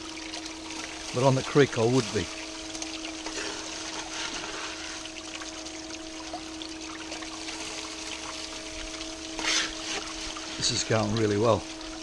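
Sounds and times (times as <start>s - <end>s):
steady hum: 0.0s - 12.0s
water trickling down sluice: 0.0s - 12.0s.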